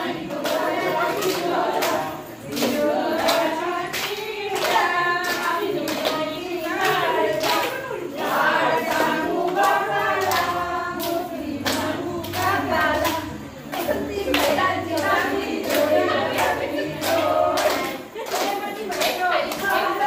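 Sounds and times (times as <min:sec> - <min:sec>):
women singing together: 0:00.0 - 0:20.0
hand claps: 0:00.1 - 0:20.0.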